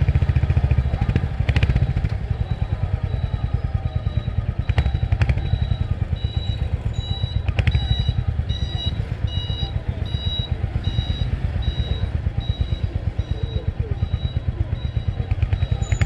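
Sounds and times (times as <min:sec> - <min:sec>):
high electronic beep: 0:02.4 - 0:16.0.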